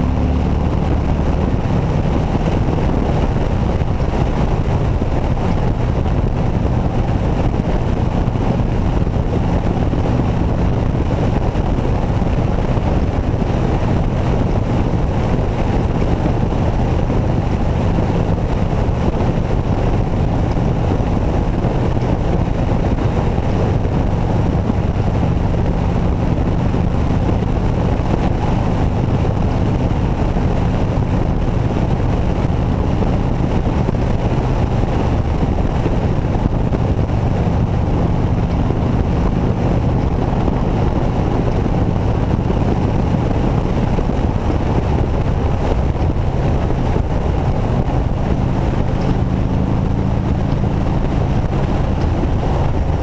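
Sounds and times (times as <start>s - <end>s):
motorcycle engine cruising: 0.0s - 53.0s
wind buffeting microphone: 0.0s - 53.0s.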